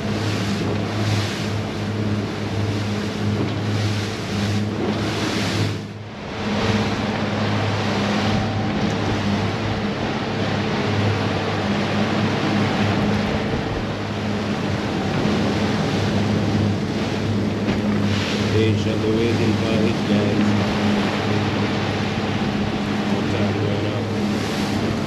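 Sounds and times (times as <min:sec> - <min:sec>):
outboard motors humming: 0:00.0 - 0:25.0
wake water rushing: 0:00.0 - 0:25.0.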